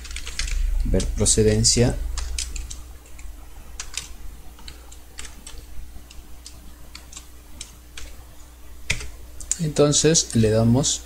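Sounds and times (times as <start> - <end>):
keyboard typing: 0.0 - 8.2, 8.8 - 9.6.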